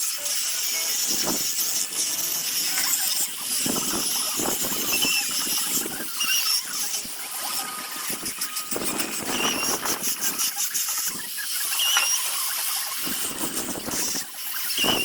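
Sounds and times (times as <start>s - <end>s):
wood sanding hiss and scraping: 0.0s - 15.0s
abrasive squealing on wood: 0.2s - 15.0s.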